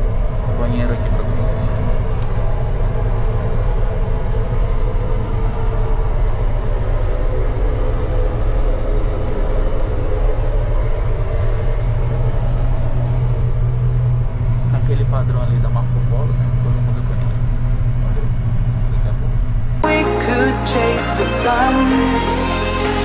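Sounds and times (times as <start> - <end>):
coach engine rumble from inside: 0.0 - 23.0.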